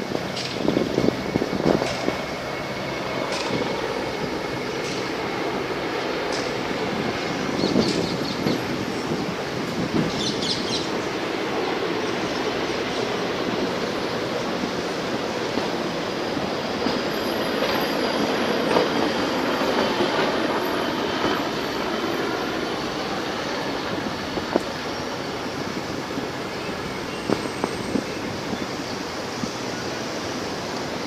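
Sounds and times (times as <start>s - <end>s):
military jet aircraft roar: 0.0s - 31.0s.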